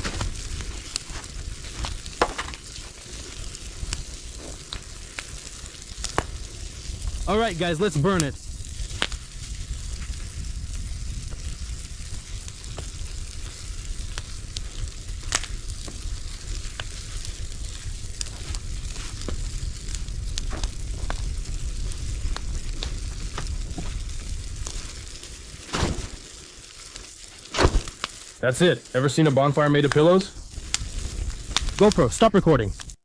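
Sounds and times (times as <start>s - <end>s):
bonfire flames rushing: 0.0s - 33.0s
fire crackling and popping: 0.0s - 33.0s.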